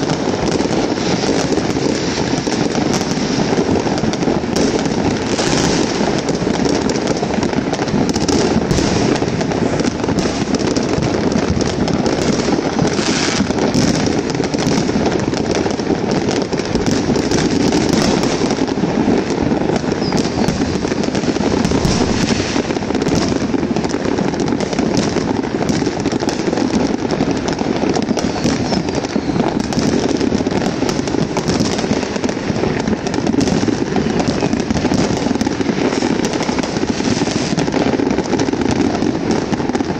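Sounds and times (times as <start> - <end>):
fireworks and firecrackers banging: 0.0 - 39.9.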